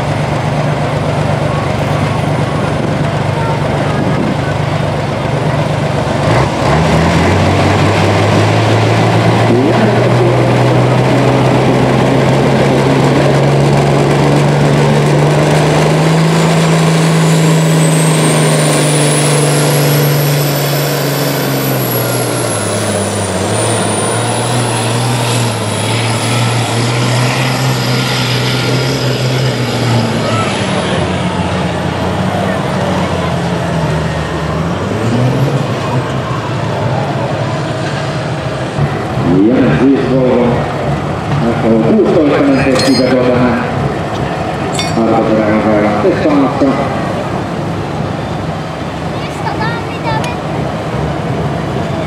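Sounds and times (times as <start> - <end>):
diesel truck engine at full throttle: 0.0 - 52.0.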